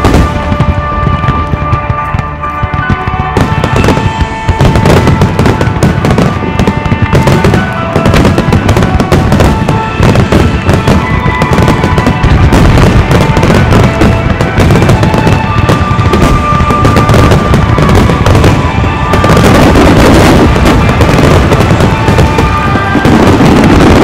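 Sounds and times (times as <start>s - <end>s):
fireworks bursting and crackling: 0.0s - 24.0s
music playing: 0.0s - 24.0s.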